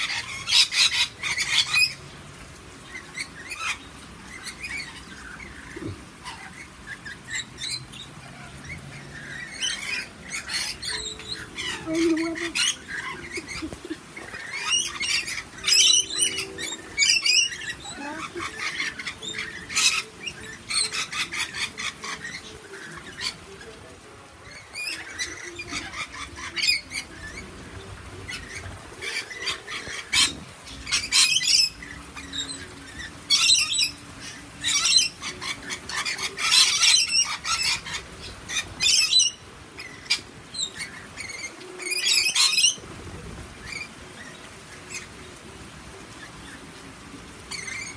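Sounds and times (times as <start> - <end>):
lorikeets screeching and chattering: 0.0 - 2.0, 2.8 - 45.3, 47.2 - 47.9.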